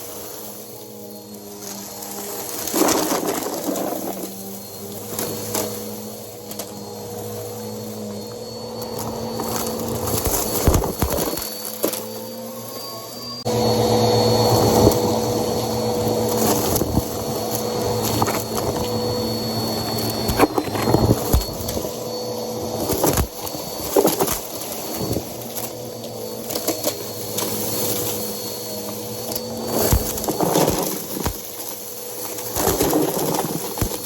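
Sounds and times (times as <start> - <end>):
upright vacuum running: 0.0 - 34.0.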